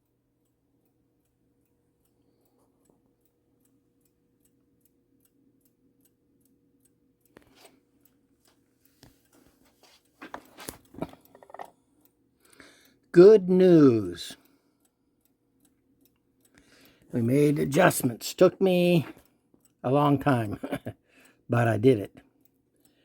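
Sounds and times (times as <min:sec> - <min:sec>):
clock ticking faintly: 0:00.0 - 0:23.0.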